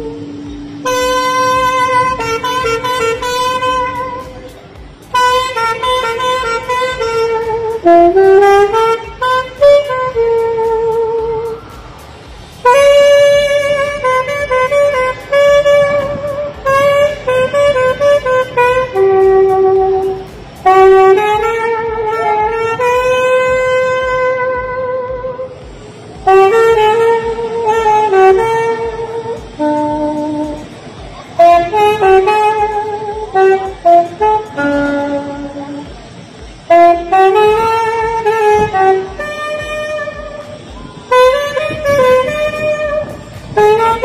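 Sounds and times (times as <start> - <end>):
saxophone playing slow melody: 0.0 - 44.0.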